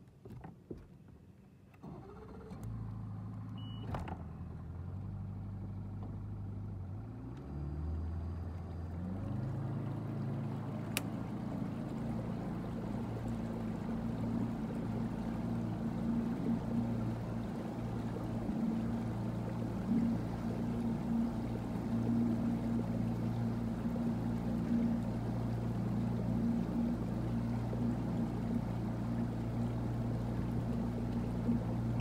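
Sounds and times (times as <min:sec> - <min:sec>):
outboard motor running and revving: 0:02.6 - 0:32.0.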